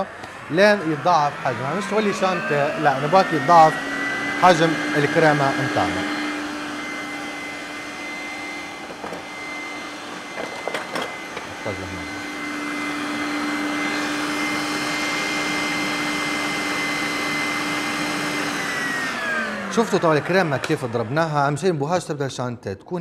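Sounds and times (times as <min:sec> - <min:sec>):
electric stand mixer whining: 0:00.0 - 0:21.7.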